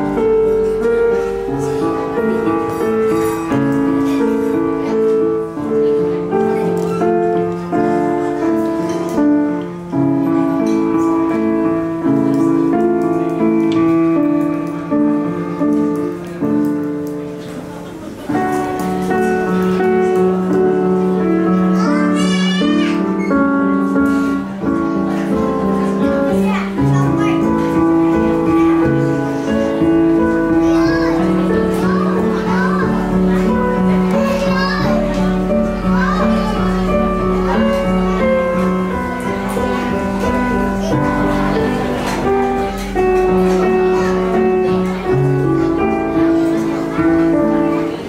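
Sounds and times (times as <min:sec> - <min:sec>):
digital piano slow melody: 0:00.0 - 0:48.0.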